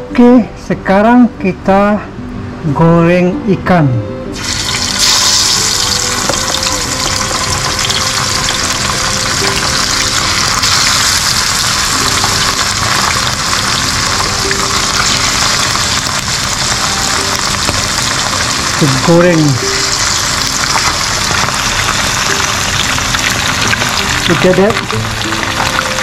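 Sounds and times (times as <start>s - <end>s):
fish frying in hot oil: 4.4s - 26.0s.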